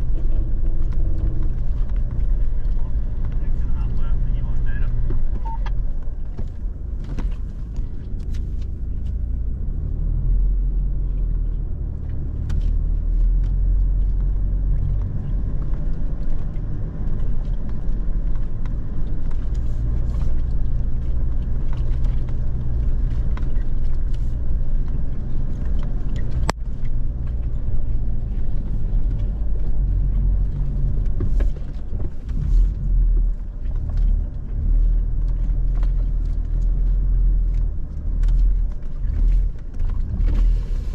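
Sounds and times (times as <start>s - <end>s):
engine and tyres rumbling: 0.0s - 40.9s.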